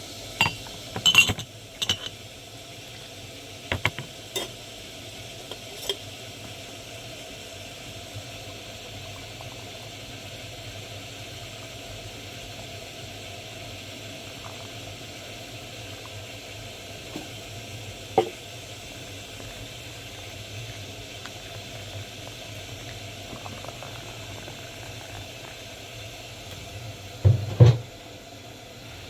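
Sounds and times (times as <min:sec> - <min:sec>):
watery hiss: 0:01.8 - 0:29.0.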